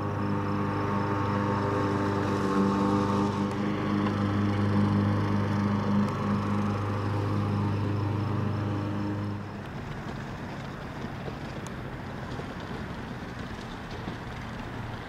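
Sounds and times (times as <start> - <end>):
engine droning at idle: 0.0 - 15.0.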